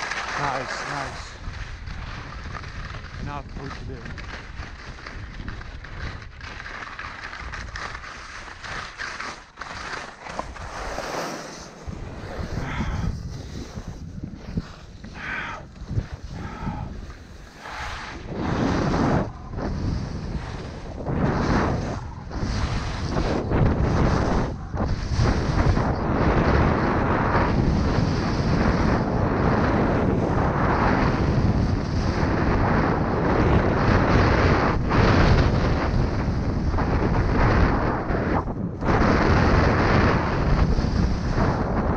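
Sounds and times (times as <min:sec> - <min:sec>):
skis scraping over snow: 0:00.0 - 0:41.9
wind buffeting microphone: 0:00.0 - 0:41.9.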